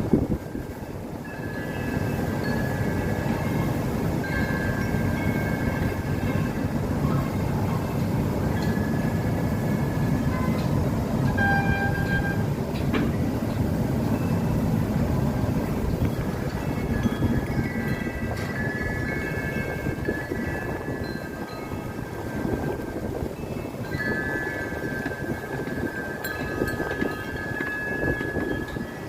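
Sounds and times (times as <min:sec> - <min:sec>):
steady low rumble: 0:00.0 - 0:28.8
metal wind chimes ringing: 0:00.4 - 0:29.0.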